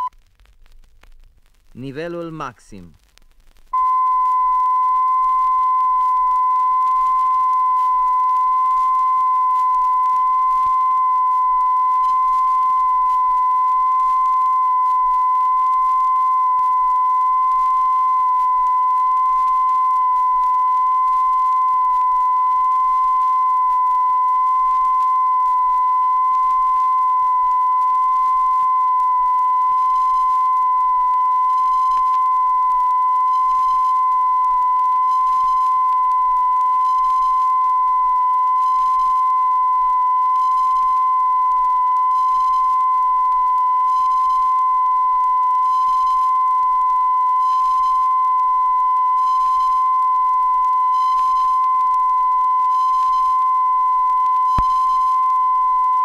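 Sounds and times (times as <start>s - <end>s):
steady sine test tone: 0.0s - 56.0s.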